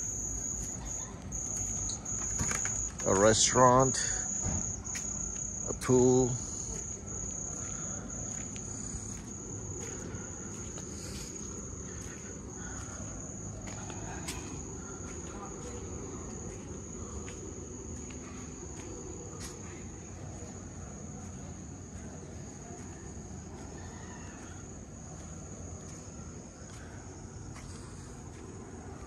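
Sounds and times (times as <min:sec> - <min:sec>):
night insects chorus: 0:00.0 - 0:29.0.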